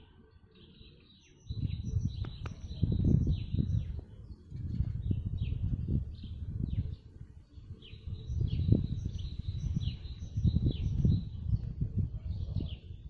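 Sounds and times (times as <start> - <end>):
songbirds chirping: 0.0 - 13.0
wind buffeting microphone: 1.4 - 13.0.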